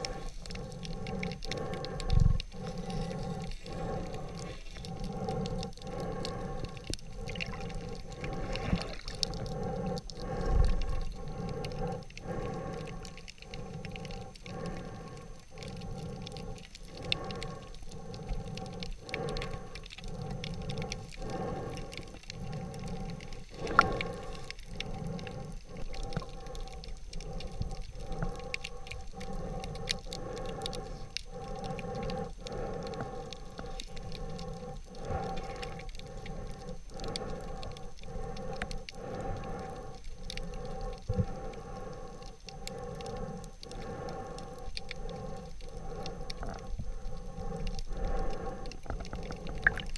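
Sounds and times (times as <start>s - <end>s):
faint crackling clicks: 0.0s - 49.9s
muffled underwater rumble and hum: 0.0s - 49.9s.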